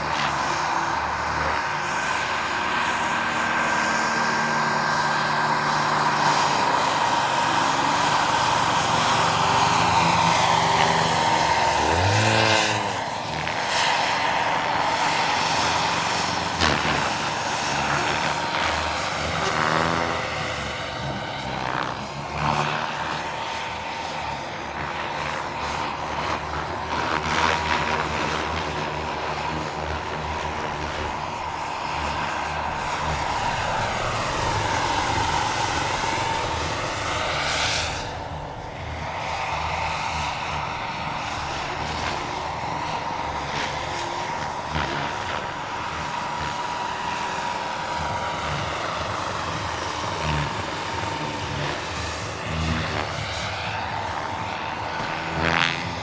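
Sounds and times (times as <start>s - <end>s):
rotor noise: 0.0s - 53.2s
model helicopter turbine whine: 0.0s - 56.0s.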